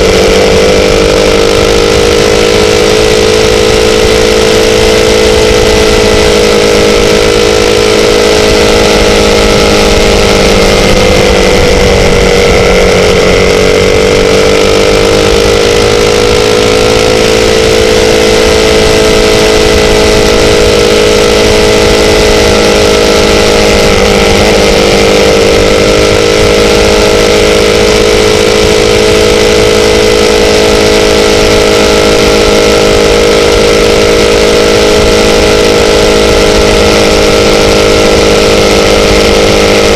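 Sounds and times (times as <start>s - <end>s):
constant rushing noise: 0.0s - 39.9s
motorcycle engine cruising: 0.0s - 39.9s.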